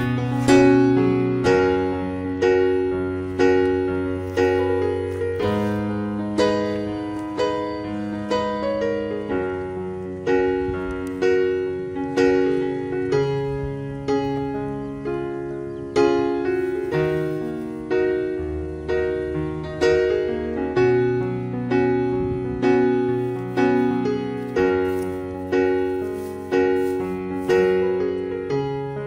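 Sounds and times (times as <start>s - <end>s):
gentle piano notes: 0.0s - 29.0s.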